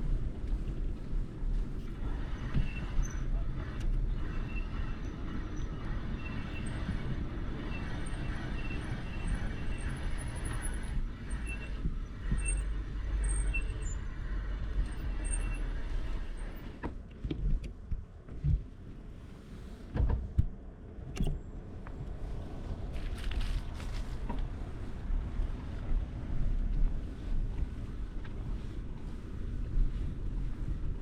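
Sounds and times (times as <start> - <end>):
rolling road noise: 0.0 - 31.0
wind rumbling on microphone: 0.0 - 31.0.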